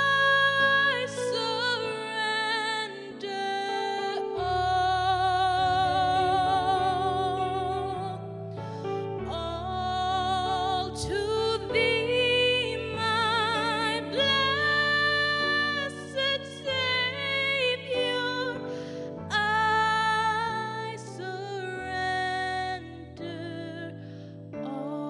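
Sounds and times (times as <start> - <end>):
keyboard chords: 0.0 - 25.0
woman singing: 0.0 - 25.0.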